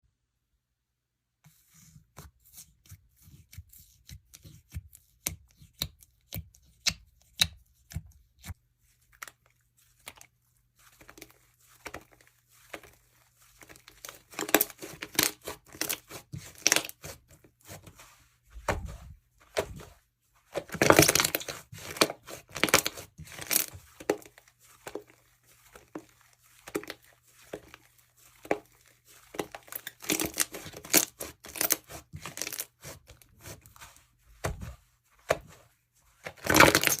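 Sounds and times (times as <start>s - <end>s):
hands squishing slime: 2.2s - 37.0s.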